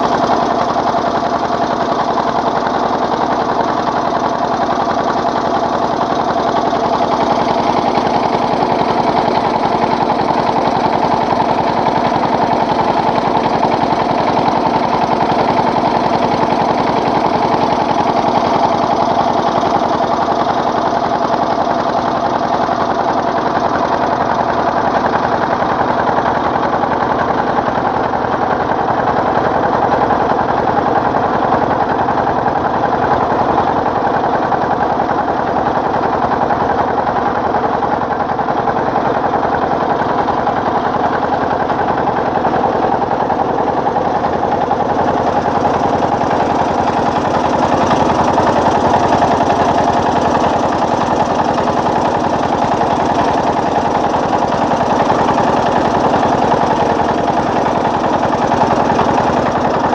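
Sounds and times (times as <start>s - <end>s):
motorboat engine clatter: 0.0s - 59.9s.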